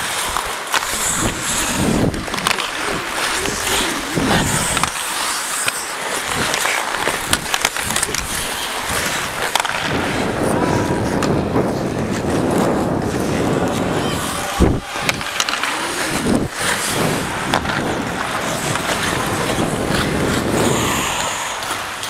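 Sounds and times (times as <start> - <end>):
skates scraping ice: 0.0 - 22.0
wind rushing over microphone: 0.9 - 5.0, 6.2 - 22.0.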